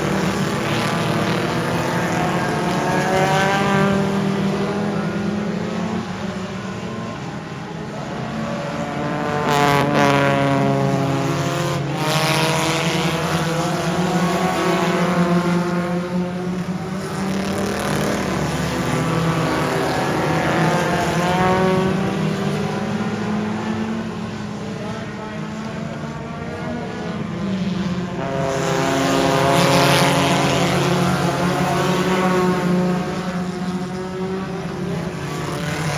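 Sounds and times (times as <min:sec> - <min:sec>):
race car engines passing: 0:00.0 - 0:35.9.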